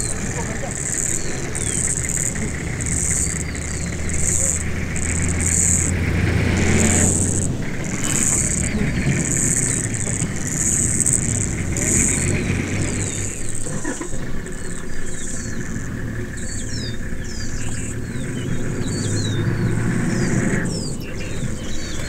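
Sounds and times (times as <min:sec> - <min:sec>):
bird chirps: 0:00.0 - 0:22.0
high insect buzz: 0:00.0 - 0:22.0
vehicle engine idling: 0:00.0 - 0:22.0.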